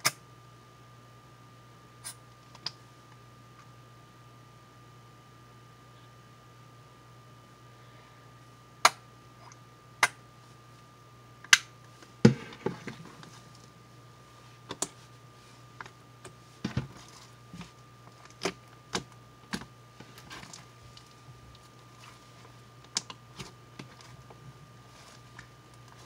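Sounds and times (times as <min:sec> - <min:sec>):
low hum: 0:00.3 - 0:26.0.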